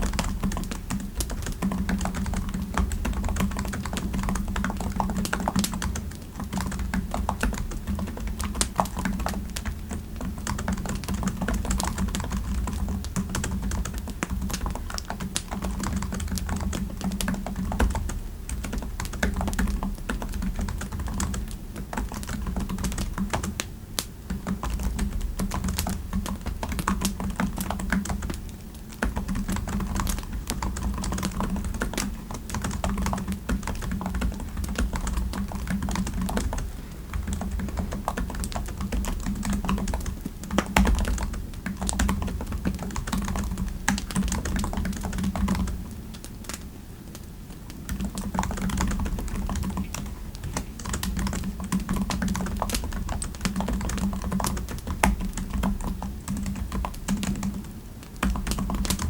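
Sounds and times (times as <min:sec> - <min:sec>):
keyboard typing: 0:00.0 - 0:23.6, 0:24.3 - 0:46.6, 0:47.7 - 0:59.0.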